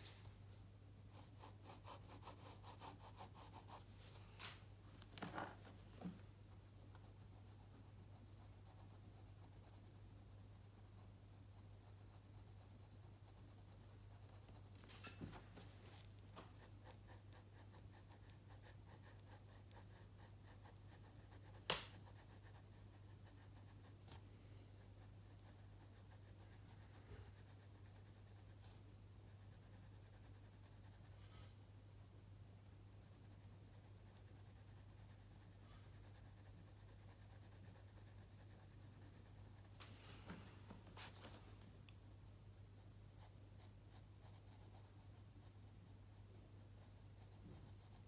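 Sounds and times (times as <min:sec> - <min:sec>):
pencil scratching on paper: 0:01.1 - 0:03.9, 0:05.2 - 0:24.2, 0:24.8 - 0:31.2, 0:33.1 - 0:39.8, 0:42.8 - 0:48.0.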